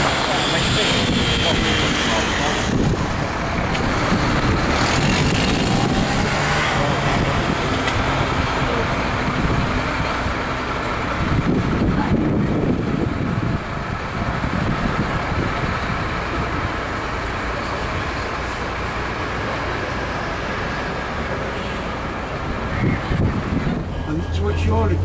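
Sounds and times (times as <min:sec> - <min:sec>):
tram running on street track: 0:00.0 - 0:25.0.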